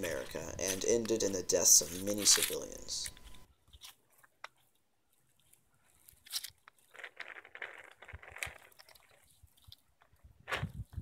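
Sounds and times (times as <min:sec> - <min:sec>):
soft rustle: 0:00.1 - 0:11.0.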